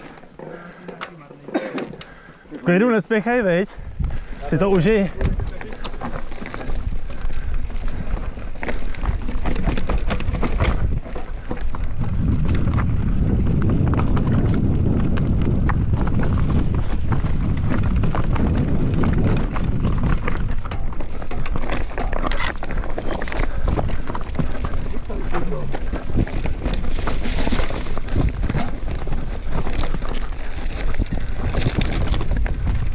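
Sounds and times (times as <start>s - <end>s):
bike tyres rolling over rocks: 0.0s - 32.9s
bike rattling and knocking: 4.0s - 32.9s.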